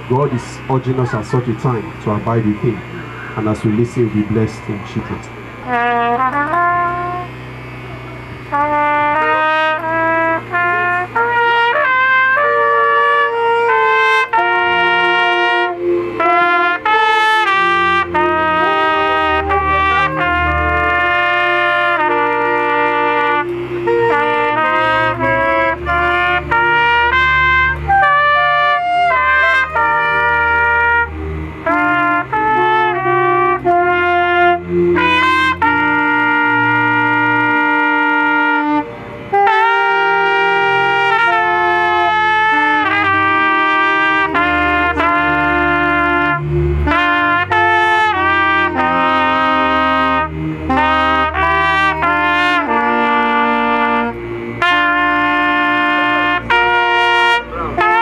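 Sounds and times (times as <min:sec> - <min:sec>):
low bass accompaniment: 0:00.0 - 0:58.0
trumpet playing slow hymn melody: 0:00.0 - 0:58.0.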